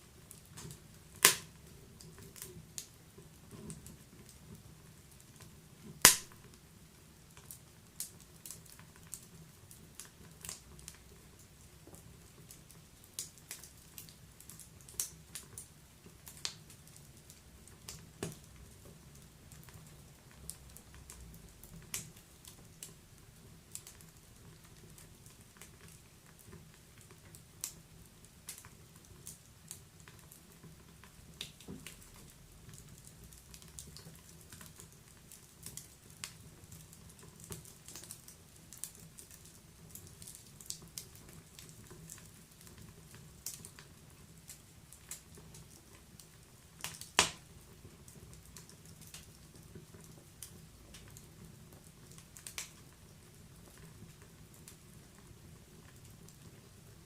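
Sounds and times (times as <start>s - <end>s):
low steady sound of burning: 0.0s - 57.0s
wood fire crackling: 0.0s - 57.0s.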